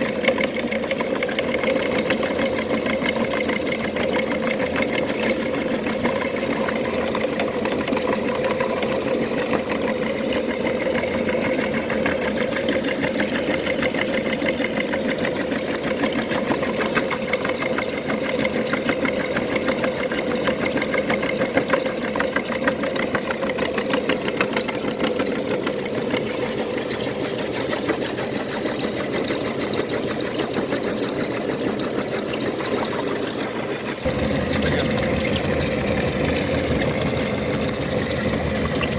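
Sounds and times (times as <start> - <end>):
meat grinder motor running: 0.0 - 38.9.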